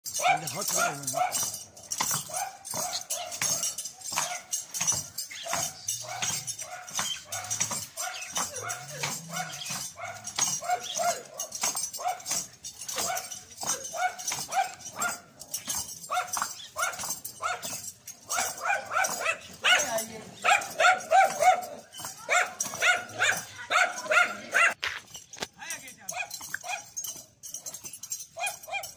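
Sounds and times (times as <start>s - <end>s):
dog barking: 0.1s - 24.8s, 26.1s - 27.0s, 27.6s - 28.9s.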